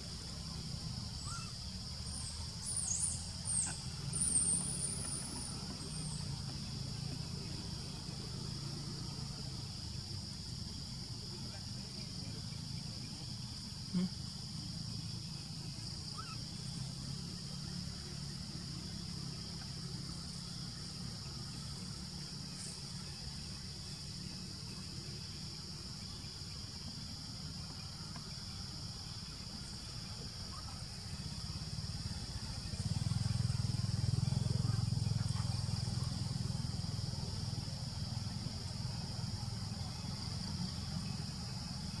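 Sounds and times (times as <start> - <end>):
forest insects droning: 0.0 - 42.0.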